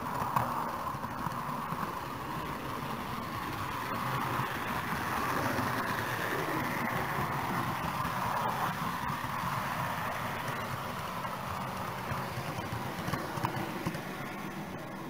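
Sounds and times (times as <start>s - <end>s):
faint clicks over rail joints: 0.0s - 15.0s
model train rolling hum: 0.0s - 15.0s.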